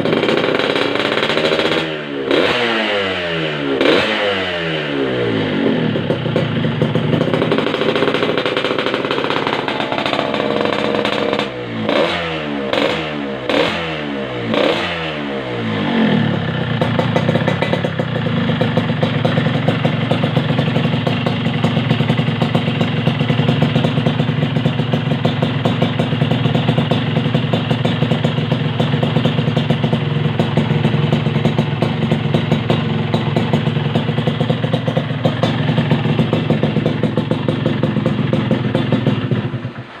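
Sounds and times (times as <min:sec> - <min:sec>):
two-stroke engine revving: 0:00.0 - 0:40.0.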